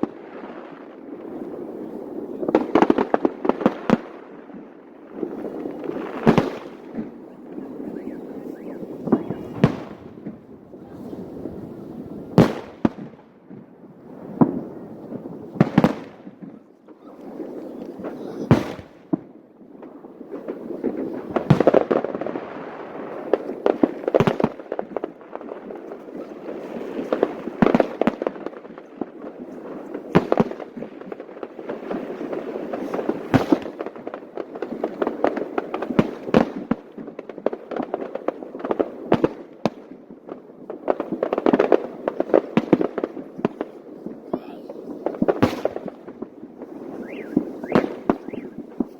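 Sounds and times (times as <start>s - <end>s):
crackle of small firework shells: 0.0s - 11.7s, 12.3s - 48.9s
firework booms with rolling echo: 0.0s - 48.9s.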